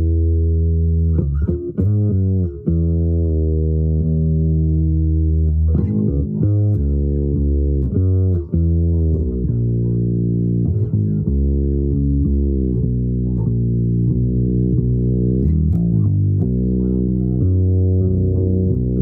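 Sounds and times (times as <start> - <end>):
low-pitched string instrument solo: 0.0 - 19.0.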